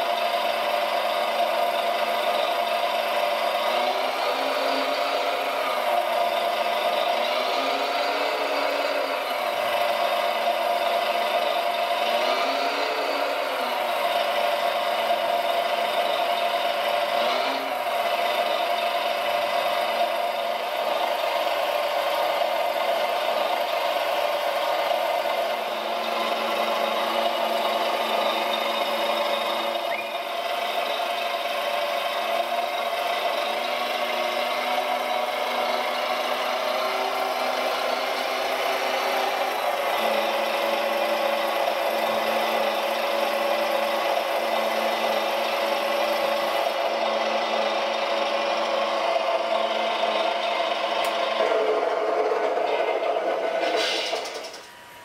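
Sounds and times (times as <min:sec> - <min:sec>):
hydraulic pump whine: 0:00.0 - 0:55.0.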